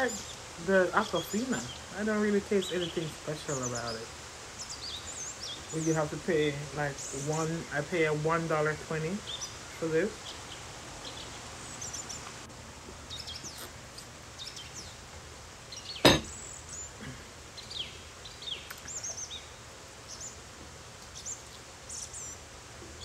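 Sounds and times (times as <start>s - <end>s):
small birds chirping: 0.0s - 23.0s
steady background hiss: 0.0s - 23.0s.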